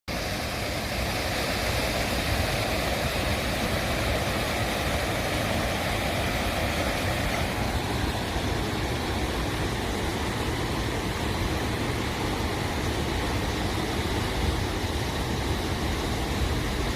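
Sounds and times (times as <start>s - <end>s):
stream water running: 0.1s - 16.9s.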